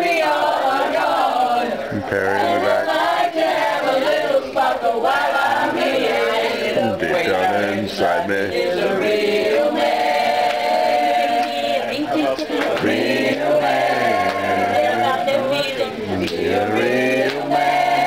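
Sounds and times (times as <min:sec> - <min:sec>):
group of people singing: 0:00.0 - 0:18.0.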